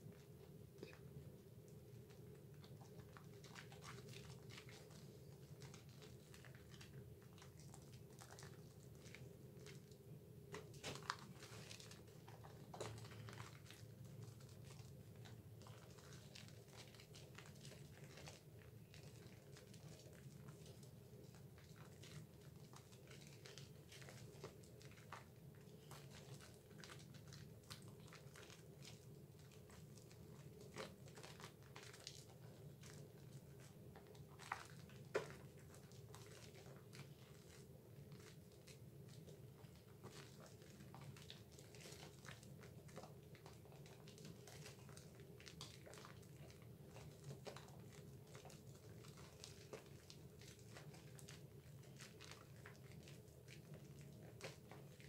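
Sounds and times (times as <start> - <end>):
hands rubbing soap lather: 2.0 - 55.0.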